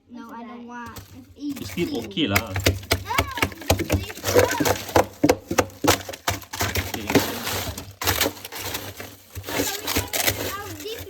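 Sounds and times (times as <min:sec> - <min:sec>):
frozen packages knocking: 0:00.8 - 0:11.0
ice crunching: 0:00.8 - 0:11.0.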